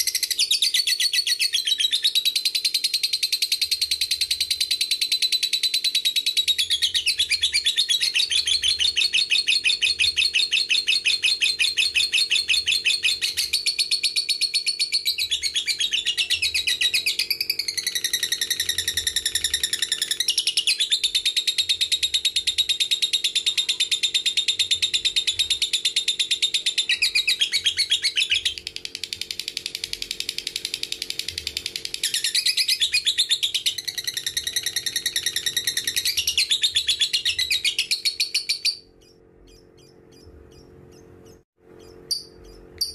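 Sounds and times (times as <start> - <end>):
lovebird chattering trill: 0.0 - 42.9.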